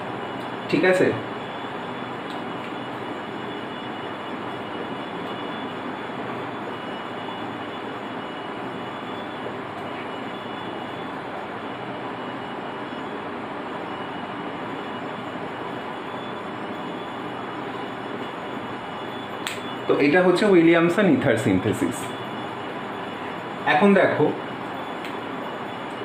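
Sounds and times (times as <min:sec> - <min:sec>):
room background rushing noise: 0:00.0 - 0:26.0.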